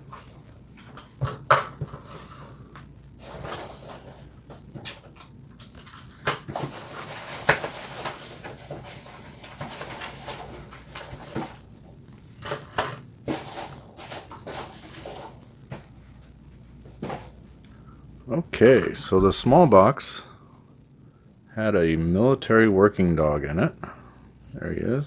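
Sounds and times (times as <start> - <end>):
rustling packing peanuts: 0.0 - 20.3.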